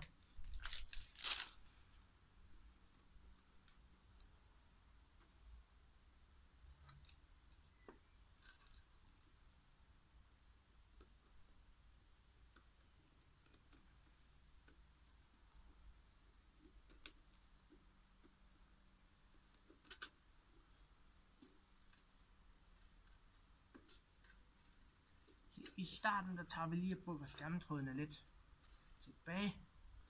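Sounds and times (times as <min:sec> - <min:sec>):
faint clicks and scratches: 0:00.0 - 0:05.8, 0:06.4 - 0:30.0.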